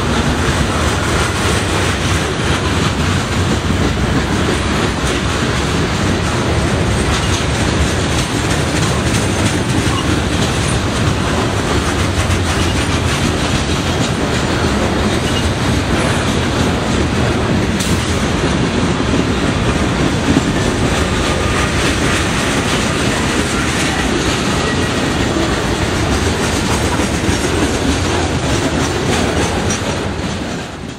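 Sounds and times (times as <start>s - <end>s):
freight train wheels rumbling: 0.0s - 30.9s.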